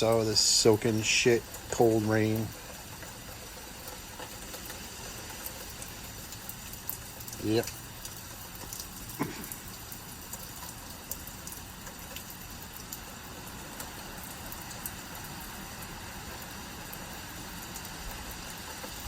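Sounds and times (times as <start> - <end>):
heavy rain: 0.0 - 19.0
raindrops ticking: 0.0 - 19.0.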